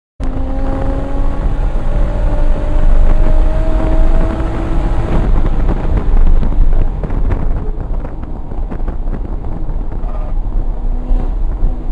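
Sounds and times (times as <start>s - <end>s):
car engine accelerating: 0.2s - 11.9s.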